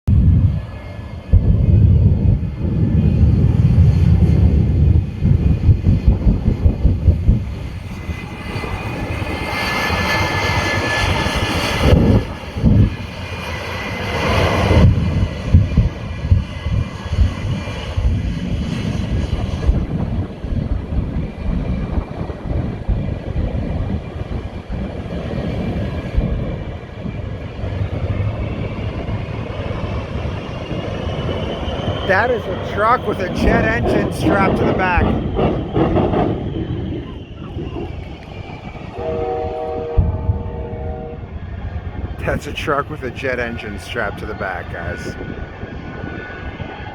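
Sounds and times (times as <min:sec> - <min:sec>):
jet engines roaring: 0:00.1 - 0:46.9.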